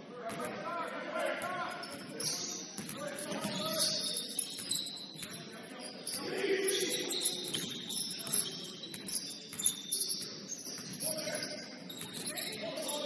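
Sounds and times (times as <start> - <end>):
murmur of voices: 0.0 - 13.0
sneakers squeaking on hardwood: 1.7 - 13.0.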